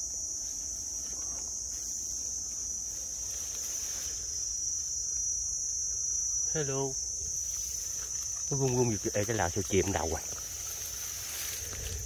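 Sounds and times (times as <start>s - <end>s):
insects shrilling: 0.0s - 12.0s.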